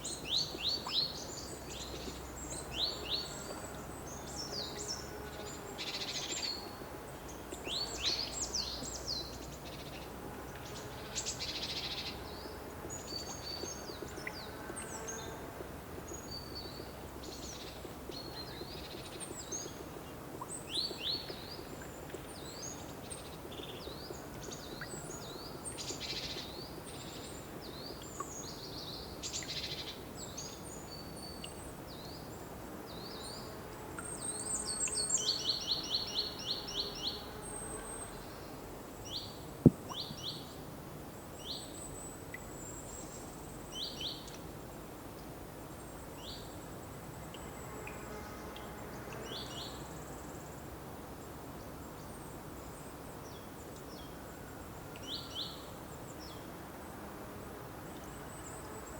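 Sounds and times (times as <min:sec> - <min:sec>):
songbirds chirping: 0:00.0 - 0:50.2
low background hiss: 0:00.0 - 0:58.9.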